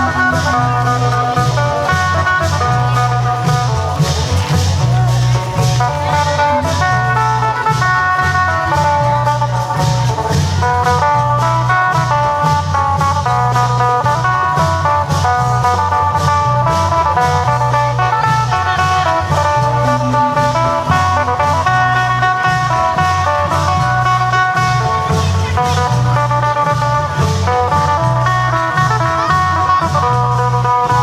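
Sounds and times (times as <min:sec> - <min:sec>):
deep bass line: 0:00.0 - 0:31.0
drums and cymbals beat: 0:00.0 - 0:31.0
plucked string melody: 0:00.0 - 0:31.0.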